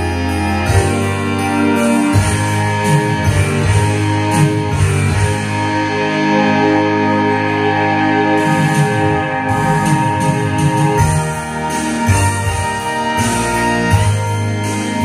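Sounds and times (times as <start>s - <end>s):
karaoke backing music with guitar: 0.0s - 15.0s.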